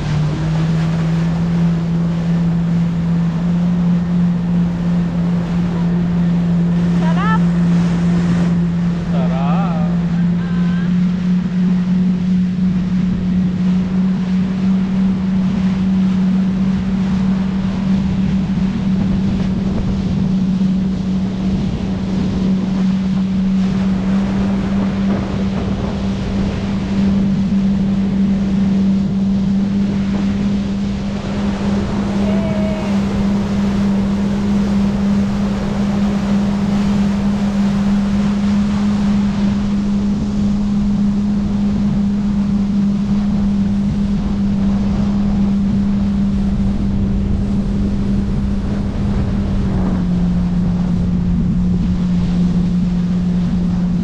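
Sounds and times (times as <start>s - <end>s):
jet ski engine drone: 0.0s - 54.0s
water and wind noise: 0.0s - 54.0s.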